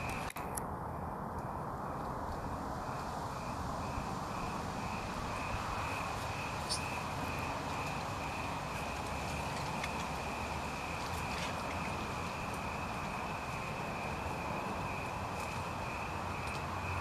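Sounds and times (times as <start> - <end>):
cricket chirping: 0.0 - 0.4, 1.4 - 17.0
low background rumble and hiss: 0.0 - 17.0.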